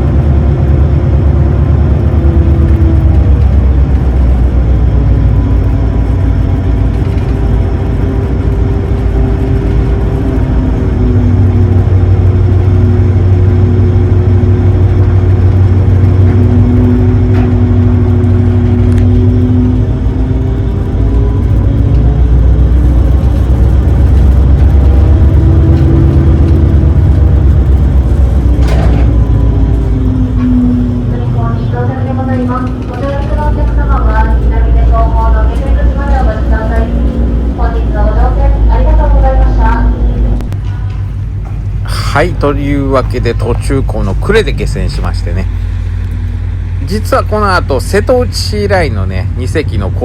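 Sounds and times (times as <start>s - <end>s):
boat engines humming: 0.0s - 50.0s.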